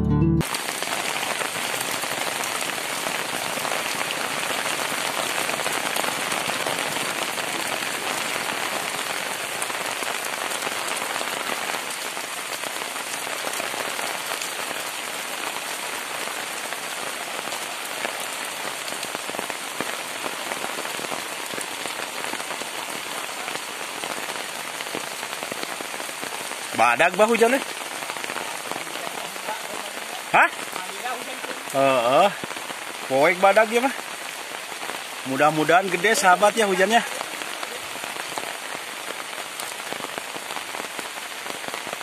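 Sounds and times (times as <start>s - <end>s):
heavy rain hissing: 0.4s - 42.0s.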